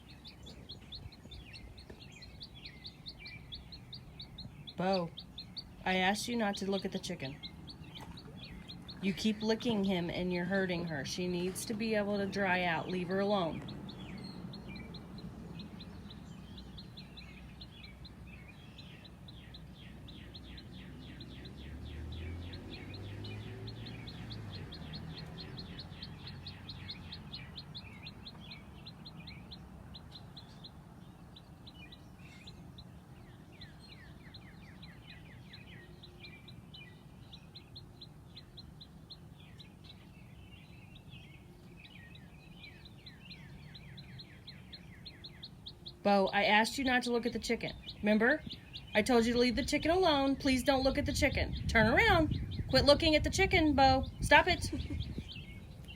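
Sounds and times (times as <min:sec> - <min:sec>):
chick peeping: 0:00.0 - 0:55.9.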